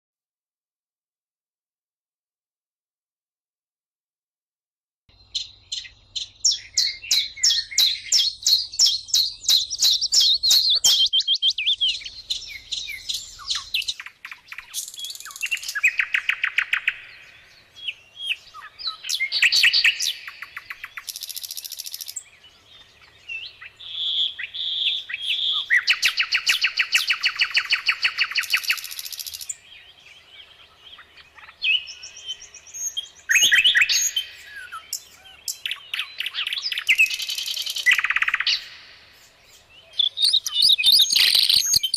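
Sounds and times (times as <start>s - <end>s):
songbirds singing trills: 5.1s - 41.9s.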